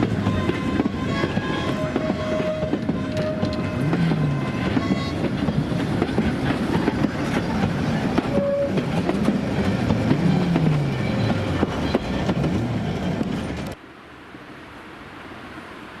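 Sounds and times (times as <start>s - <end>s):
steam locomotive rumbling: 0.0s - 13.8s
train wheels clicking on rails: 0.0s - 13.8s.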